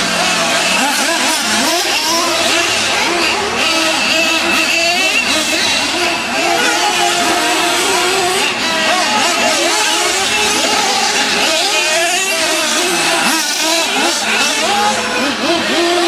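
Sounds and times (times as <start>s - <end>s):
rc truck engines revving: 0.0s - 16.0s.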